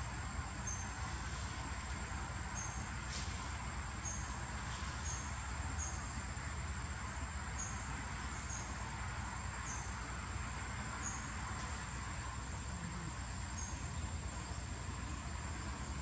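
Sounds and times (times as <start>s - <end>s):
insect chirps: 0.0s - 16.0s
insects buzzing: 0.0s - 16.0s.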